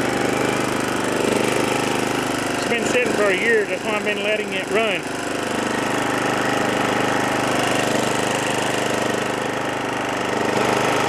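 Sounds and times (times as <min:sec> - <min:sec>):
riding mower engine running: 0:00.0 - 0:11.0.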